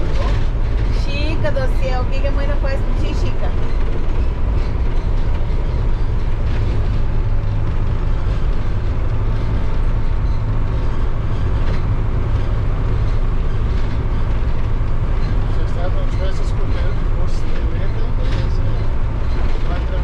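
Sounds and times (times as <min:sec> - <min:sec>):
low engine drone: 0:00.0 - 0:20.0
road rumble: 0:00.0 - 0:20.0.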